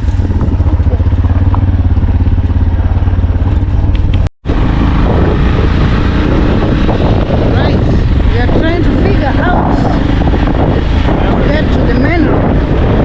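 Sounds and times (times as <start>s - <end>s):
road and wind noise: 0.0s - 13.0s
vehicle engine rumbling: 0.0s - 13.0s.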